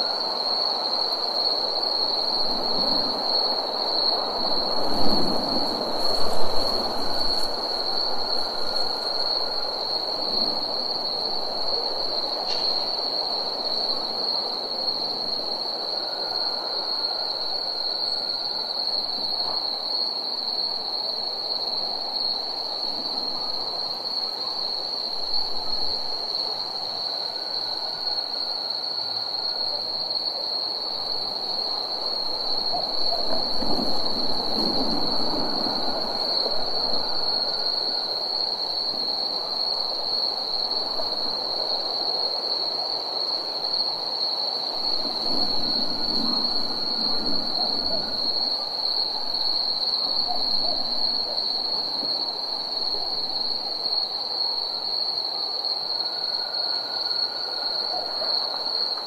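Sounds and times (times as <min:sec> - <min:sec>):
fainter lower insect trill: 0:00.0 - 0:59.0
high-pitched insect trill: 0:00.0 - 0:59.0.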